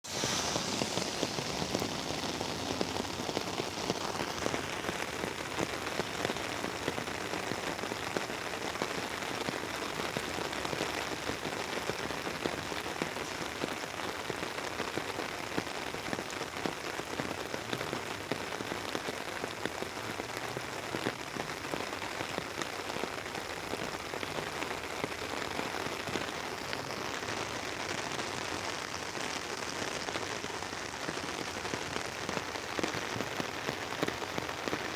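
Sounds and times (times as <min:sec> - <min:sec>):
rain pattering on an umbrella: 0:00.0 - 0:34.9.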